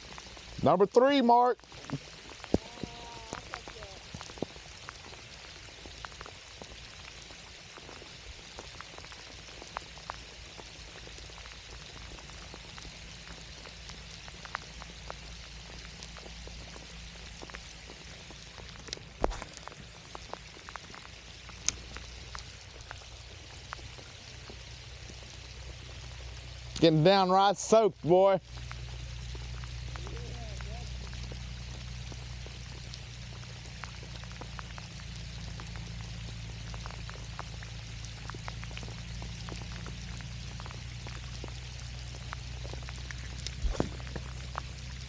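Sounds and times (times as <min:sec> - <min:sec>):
raindrop ticks: 0:00.0 - 0:45.0
steady rain hiss: 0:00.0 - 0:45.0.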